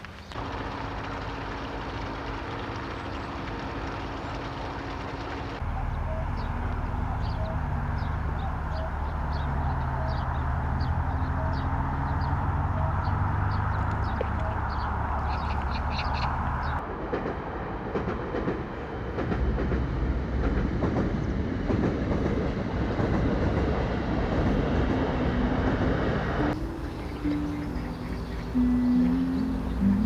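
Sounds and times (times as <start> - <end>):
train rumbling along track: 0.0 - 30.0.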